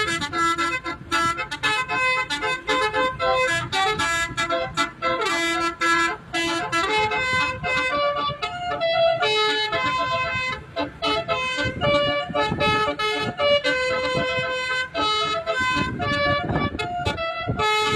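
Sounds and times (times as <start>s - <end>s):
bus musical horn melody: 0.0s - 17.9s.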